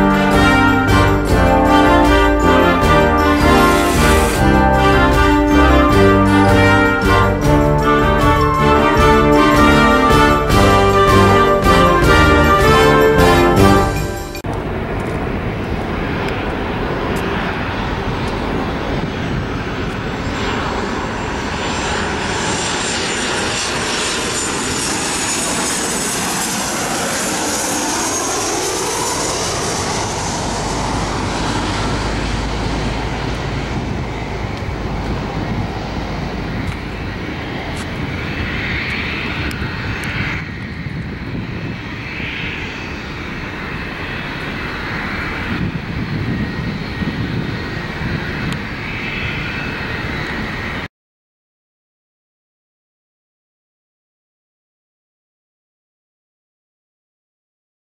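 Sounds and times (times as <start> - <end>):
jet engines passing overhead: 0.0 - 50.9.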